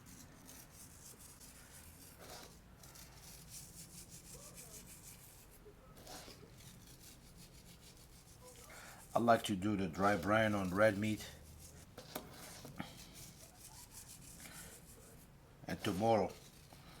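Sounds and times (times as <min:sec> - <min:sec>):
salt rubbing on raw meat: 0:00.5 - 0:17.0.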